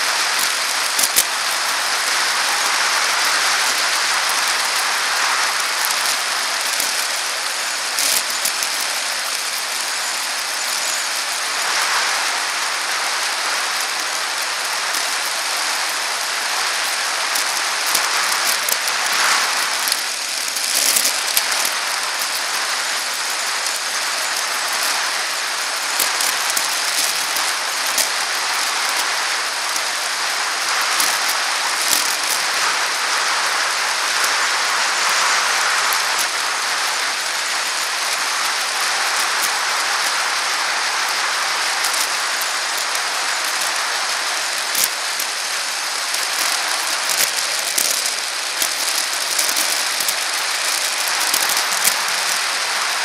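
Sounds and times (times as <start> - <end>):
bicycle clicking and rattling: 0.0 - 53.0
bicycle tyre noise on pavement: 0.0 - 53.0
wind hiss: 0.0 - 53.0.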